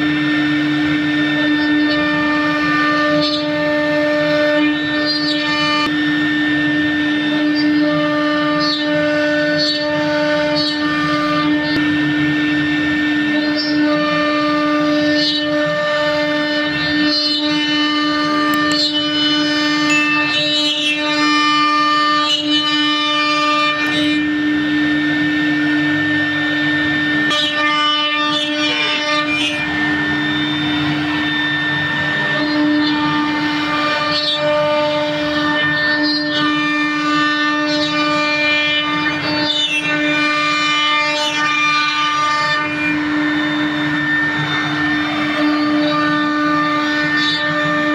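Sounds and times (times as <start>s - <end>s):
cutting noise: 0.0s - 47.9s
router spindle whining: 0.0s - 47.9s.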